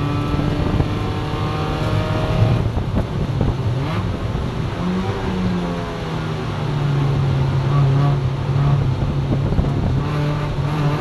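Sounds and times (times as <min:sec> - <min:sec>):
race car engine: 0:00.0 - 0:11.0.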